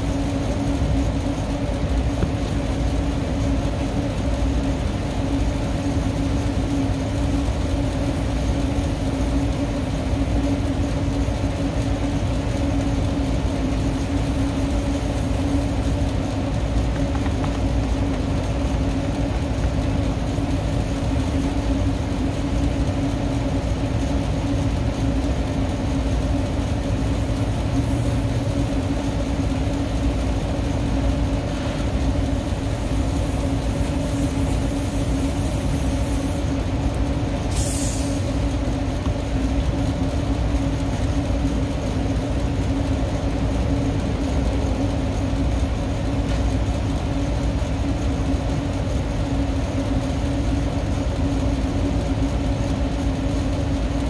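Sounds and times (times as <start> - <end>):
hvac machinery humming: 0.0 - 54.0.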